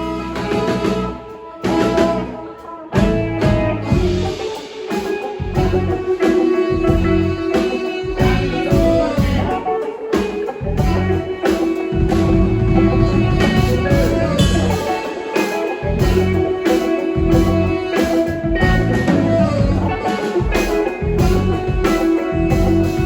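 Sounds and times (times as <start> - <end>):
guitar: 0.0 - 23.0
live band playing: 0.0 - 23.0.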